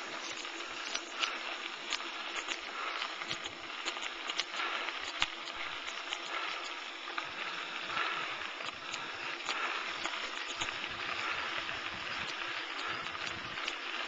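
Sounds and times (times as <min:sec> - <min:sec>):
bicycle tyres rustling: 0:00.0 - 0:14.0
small clicks and ticks: 0:00.0 - 0:14.0.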